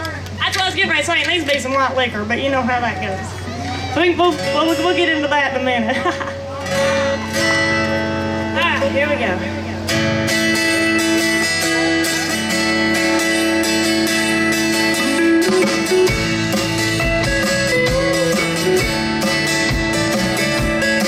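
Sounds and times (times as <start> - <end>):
live country band playing: 0.0 - 21.0
strummed acoustic guitar: 0.0 - 21.0.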